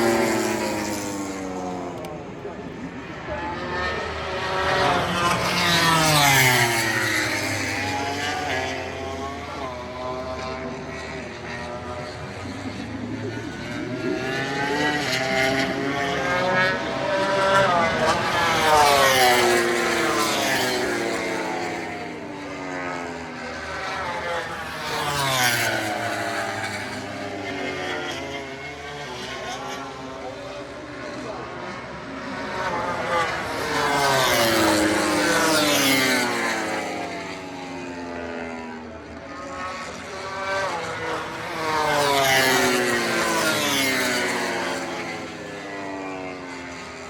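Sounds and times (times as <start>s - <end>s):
race motorcycle passing at speed: 0.0s - 47.0s.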